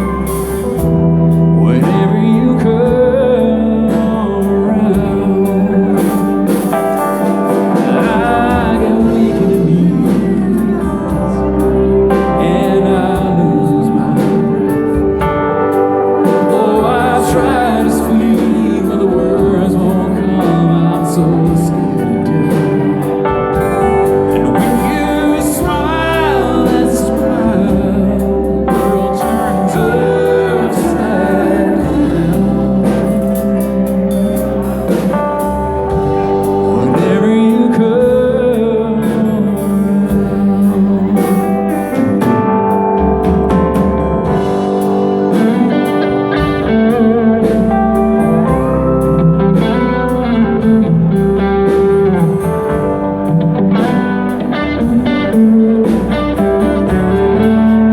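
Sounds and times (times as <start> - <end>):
bass guitar: 0.0 - 57.9
drums: 0.0 - 57.9
electric and slide guitar: 0.0 - 57.9
person singing: 0.0 - 57.9.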